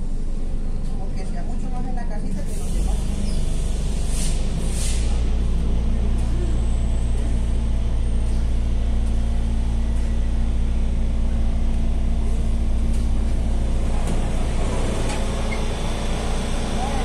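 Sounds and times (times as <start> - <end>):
constant low hum: 0.0 - 17.0
metro train rumble: 0.0 - 17.0.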